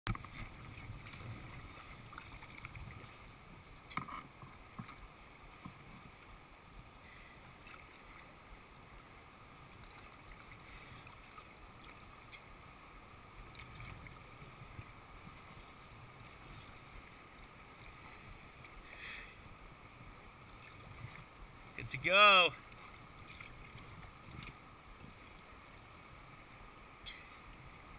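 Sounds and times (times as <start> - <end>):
paddle strokes dripping: 0.1 - 27.9
water lapping along hull: 0.1 - 27.9.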